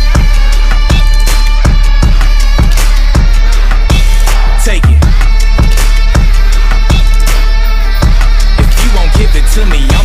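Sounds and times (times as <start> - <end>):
loud electronic music: 0.0 - 10.0
steady drum beat: 0.0 - 10.0.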